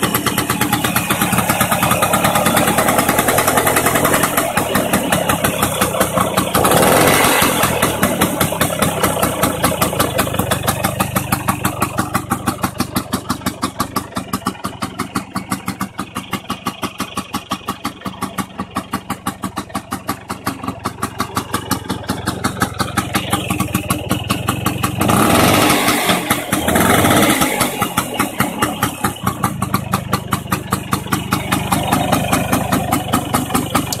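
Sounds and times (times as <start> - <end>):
scooter engine idling: 0.0 - 34.0.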